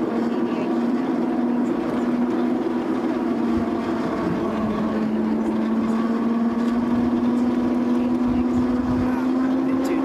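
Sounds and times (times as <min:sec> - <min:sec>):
railway coach rumbling: 0:00.0 - 0:10.0.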